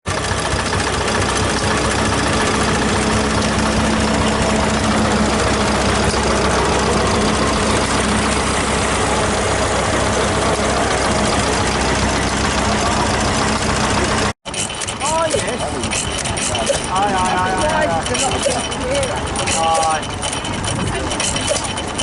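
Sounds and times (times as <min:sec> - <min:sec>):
stationary engines idling: 0:00.0 - 0:22.0.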